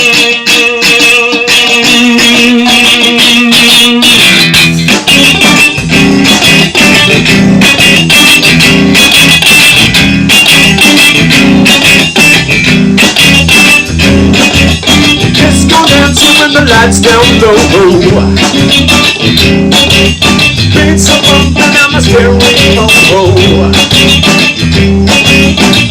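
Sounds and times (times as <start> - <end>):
bass guitar: 0.0 - 25.9
rock-pop guitar: 0.0 - 25.9
steady drum beat: 4.4 - 25.9.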